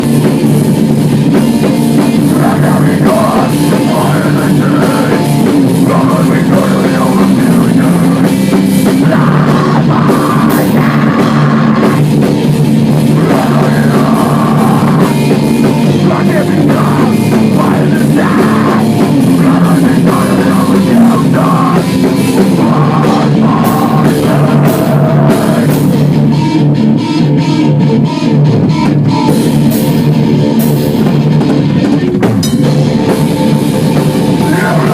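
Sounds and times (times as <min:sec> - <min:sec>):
distorted electric guitars: 0:00.0 - 0:34.9
heavy metal band music: 0:00.0 - 0:34.9
pounding drum kit: 0:00.0 - 0:34.9.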